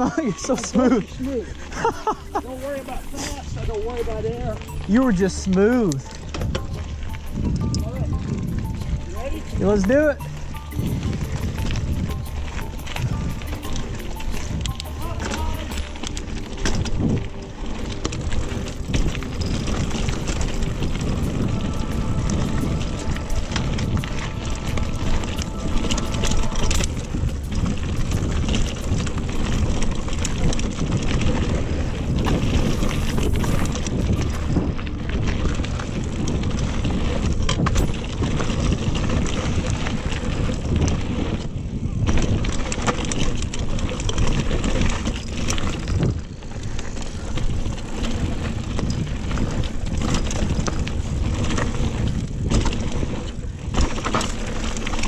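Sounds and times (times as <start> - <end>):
bike clicking and rattling: 0.0 - 55.0
bike tyres rolling over dirt: 0.0 - 55.0
wind noise on microphone: 0.0 - 55.0.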